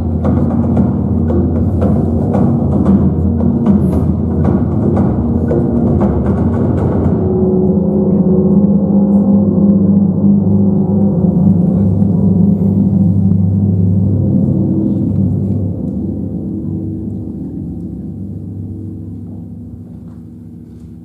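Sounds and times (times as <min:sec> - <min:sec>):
low ringing drone: 0:00.0 - 0:21.0
percussion hits: 0:00.0 - 0:21.0.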